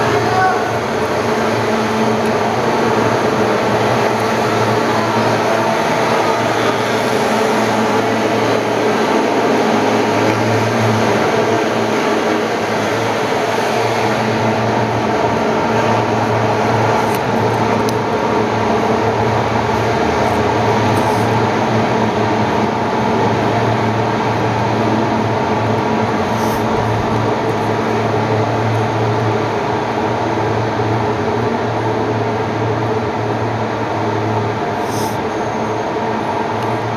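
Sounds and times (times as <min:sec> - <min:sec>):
fogging machine droning: 0:00.0 - 0:36.9.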